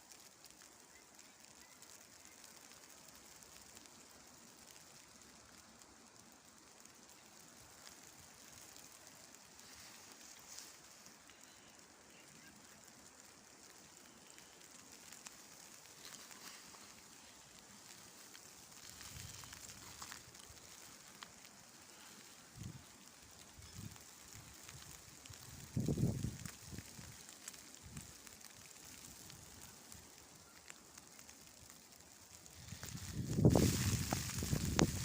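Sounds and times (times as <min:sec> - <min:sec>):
snow patter hiss: 0:00.0 - 0:35.0.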